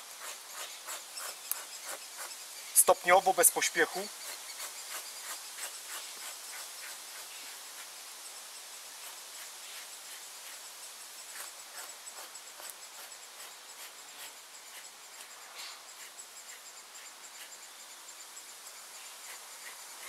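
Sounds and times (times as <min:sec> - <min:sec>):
faint high hiss: 0:00.0 - 0:20.0.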